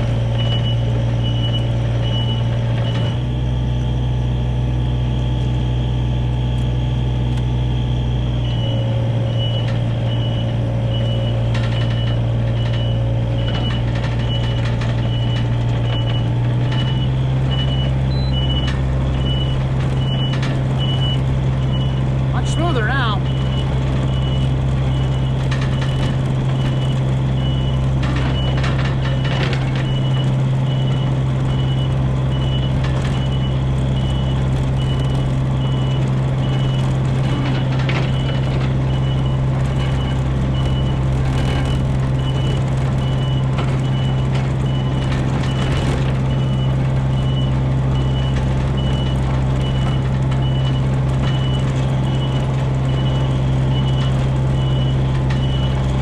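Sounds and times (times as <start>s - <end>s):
excavator diesel engine running: 0.0s - 56.0s
travel alarm beeping: 0.4s - 3.4s, 8.1s - 56.0s.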